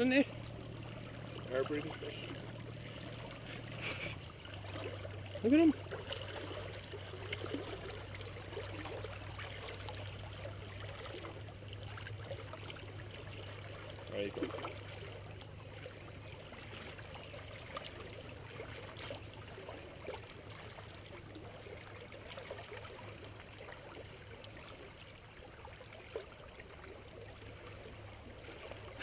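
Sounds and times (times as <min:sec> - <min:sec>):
faint water splashing: 0:00.0 - 0:29.0
small waves lapping on rocks: 0:00.0 - 0:29.0.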